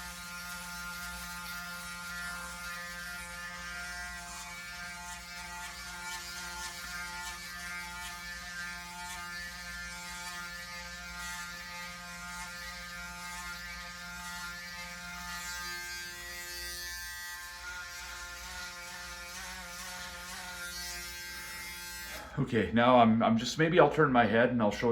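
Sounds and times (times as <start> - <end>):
electric shaver buzzing: 0.0 - 22.4.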